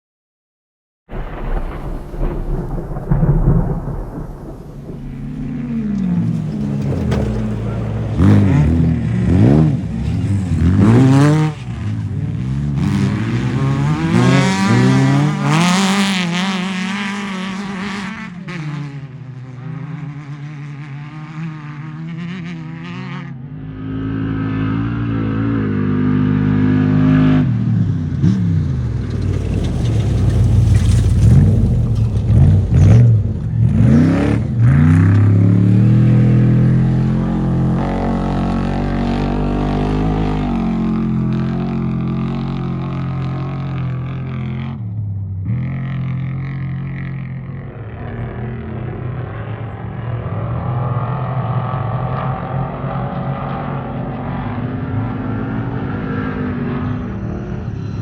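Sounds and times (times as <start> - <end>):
race vehicles revving past: 2.2 - 58.0.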